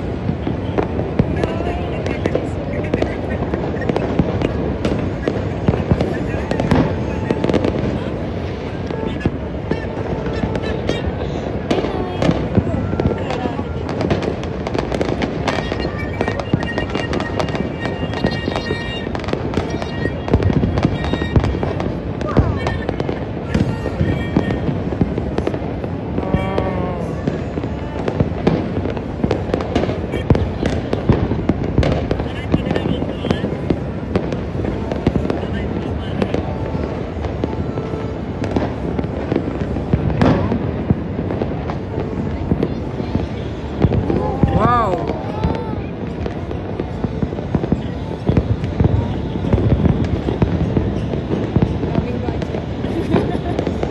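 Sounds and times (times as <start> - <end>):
fireworks and firecrackers crackling: 0.0 - 53.9.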